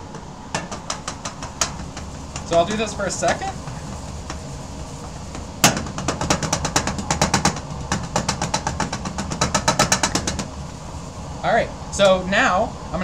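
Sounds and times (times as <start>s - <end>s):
metal sieves rattling: 0.0s - 10.6s
sharp knock: 0.0s - 10.6s.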